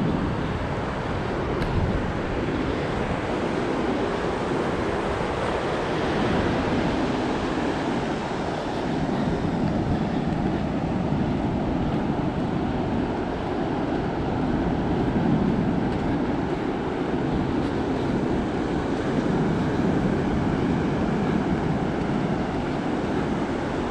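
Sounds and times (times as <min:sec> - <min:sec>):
ocean surf rushing: 0:00.0 - 0:23.9
wind buffeting microphone: 0:00.0 - 0:23.9.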